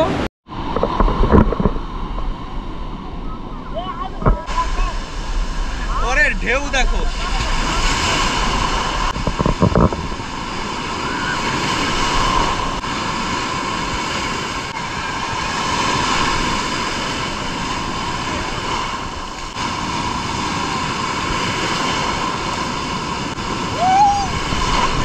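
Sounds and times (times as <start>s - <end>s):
sea surf breaking: 0.0s - 25.0s.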